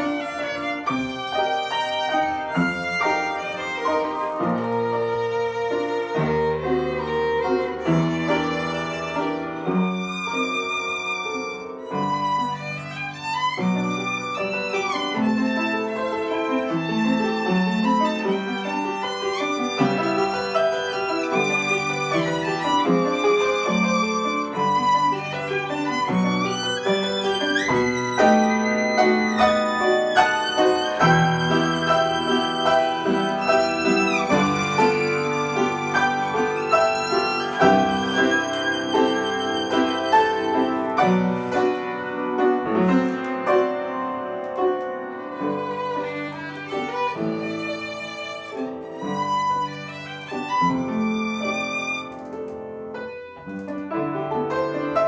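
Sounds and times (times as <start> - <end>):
violin melody with vibrato: 0.0 - 52.4
piano accompaniment: 0.0 - 55.0.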